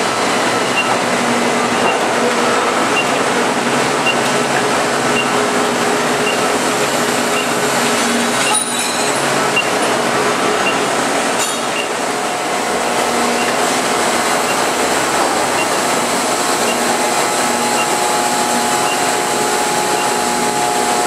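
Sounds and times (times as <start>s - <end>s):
factory machinery noise: 0.0s - 21.0s
thin steady whine: 0.0s - 21.0s.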